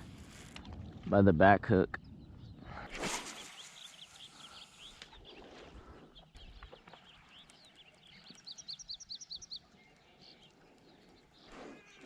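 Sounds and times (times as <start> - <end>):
bird singing faintly: 1.9 - 12.0.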